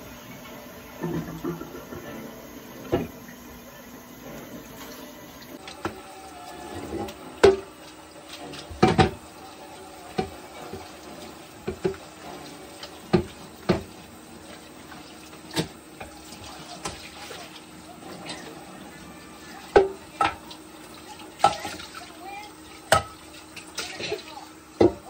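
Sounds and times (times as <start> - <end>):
kitchen tap running: 0.0 - 25.0.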